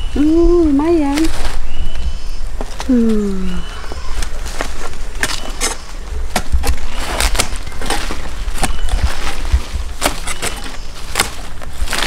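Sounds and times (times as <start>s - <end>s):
low rumble on microphone: 0.0s - 12.0s
snapping and rustling of plants: 0.2s - 12.0s.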